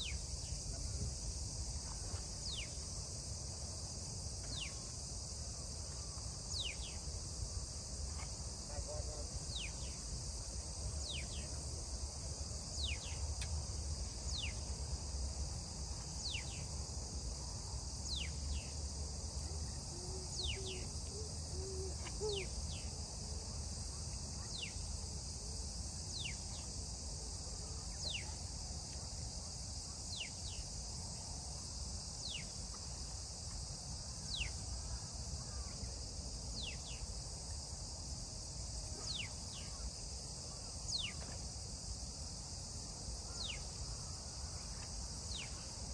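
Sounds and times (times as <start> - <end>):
insects chorus: 0.0 - 45.9.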